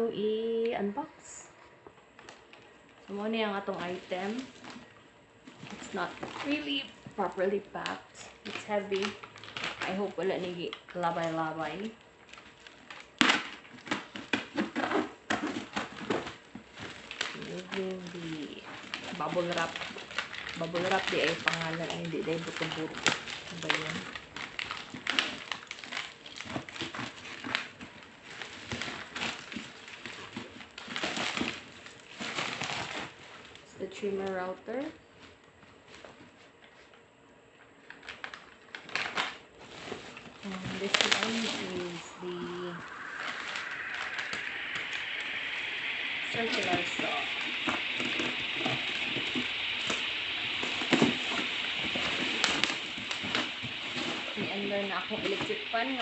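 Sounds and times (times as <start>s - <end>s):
electric fan whooshing hiss: 0.0s - 34.7s, 38.8s - 56.0s
plastic packaging crinkling: 2.1s - 37.1s, 37.7s - 56.0s.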